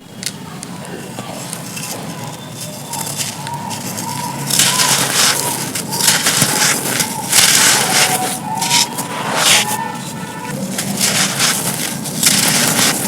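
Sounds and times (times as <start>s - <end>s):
brittle material being crushed: 0.1s - 13.0s.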